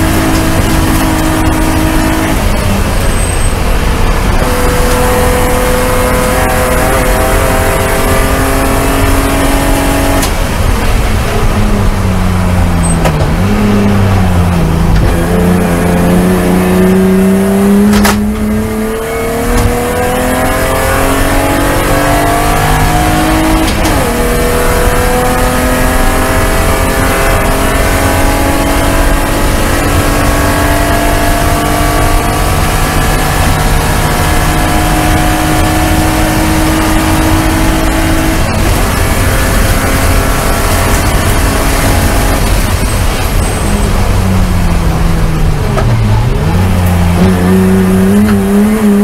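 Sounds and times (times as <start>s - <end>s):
race car engine from inside cabin: 0.0s - 49.0s.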